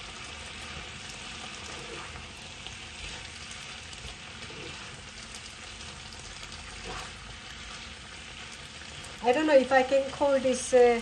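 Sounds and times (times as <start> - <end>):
chicken frying in a pot: 0.0 - 11.0.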